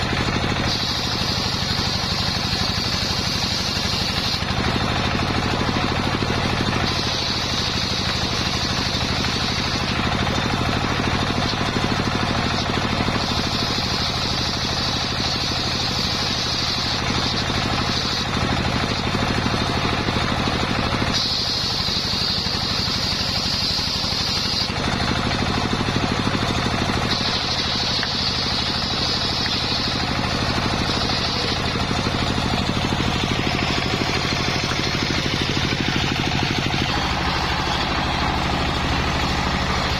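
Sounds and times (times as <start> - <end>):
circular saw engine running: 0.0 - 39.9
high saw blade whine: 0.0 - 39.9.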